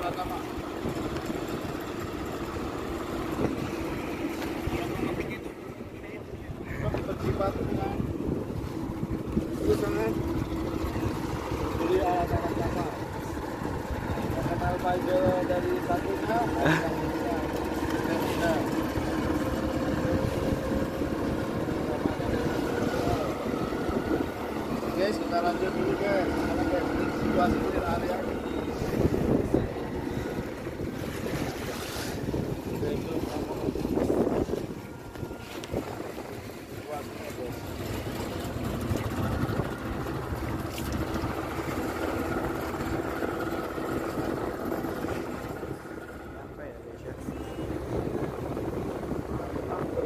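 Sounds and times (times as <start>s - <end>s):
motorboat engine running: 0.0s - 50.0s
water noise: 0.0s - 50.0s
wind: 0.0s - 50.0s.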